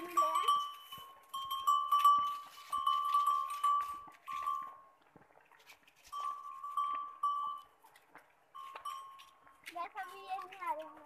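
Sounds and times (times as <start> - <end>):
small livestock bell jingling: 0.0 - 11.0.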